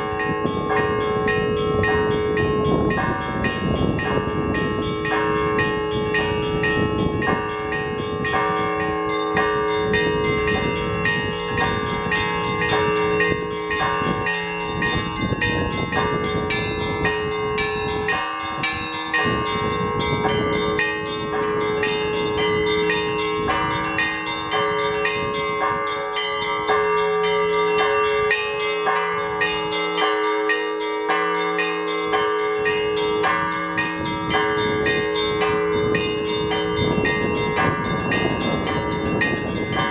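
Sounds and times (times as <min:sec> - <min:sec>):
wind buffeting microphone: 0:00.0 - 0:30.6, 0:31.7 - 0:39.9
church bells chiming: 0:00.0 - 0:39.9.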